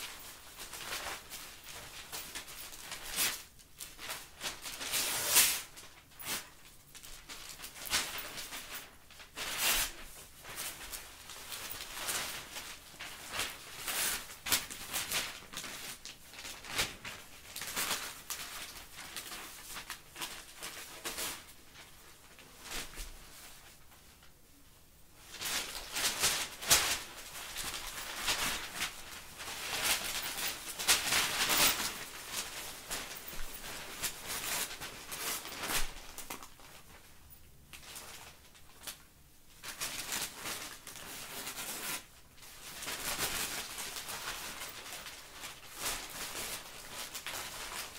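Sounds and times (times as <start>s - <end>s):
newspaper rustling and crinkling: 0.0s - 24.4s, 25.2s - 47.9s.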